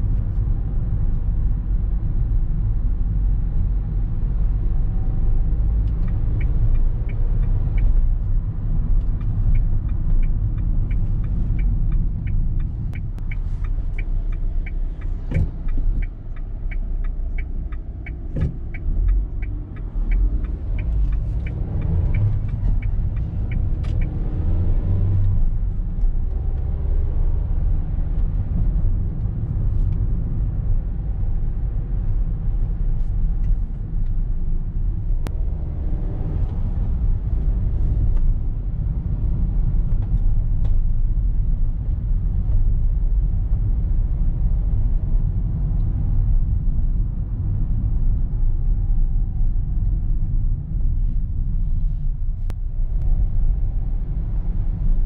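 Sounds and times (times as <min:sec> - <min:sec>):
van engine rumble from inside: 0:00.0 - 0:55.0.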